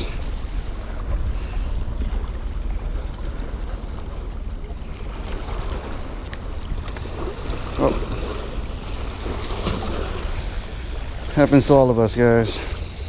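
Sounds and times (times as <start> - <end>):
waves lapping on rocky shore: 0.0 - 13.0
wind rumbling on microphone: 0.0 - 13.0.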